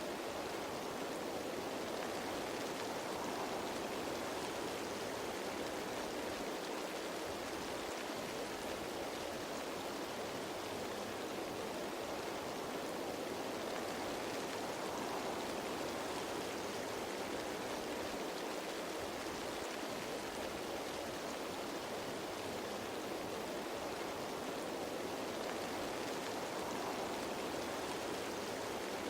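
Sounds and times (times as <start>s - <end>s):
rain falling on leaves: 0.0s - 29.0s.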